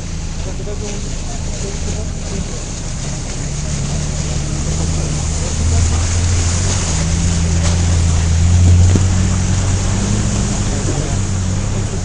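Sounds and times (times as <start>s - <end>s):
vehicle engine droning: 0.0s - 12.0s
wind or road noise: 0.0s - 12.0s.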